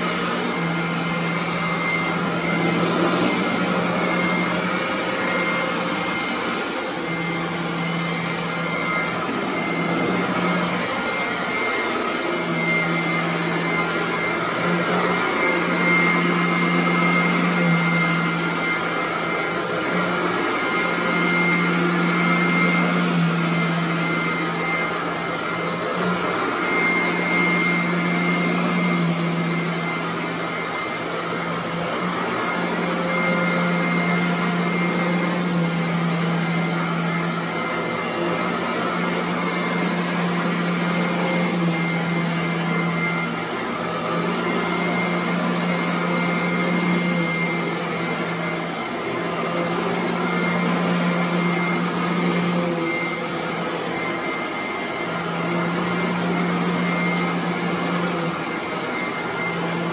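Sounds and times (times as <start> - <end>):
vacuum cleaner motor hum and whine: 0.0 - 59.9.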